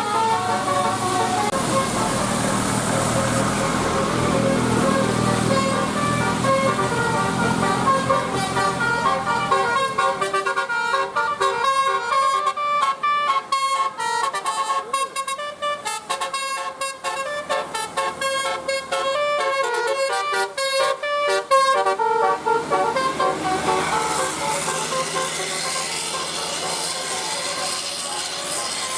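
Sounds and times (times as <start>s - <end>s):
low engine rumble: 0.0s - 28.9s
multi-tone horn melody: 0.0s - 28.9s.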